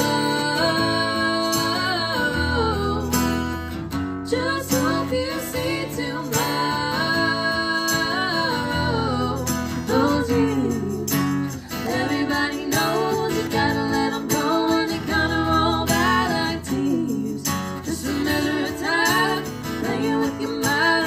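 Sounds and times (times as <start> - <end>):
strummed acoustic guitar: 0.0 - 21.0
woman singing: 0.0 - 21.0.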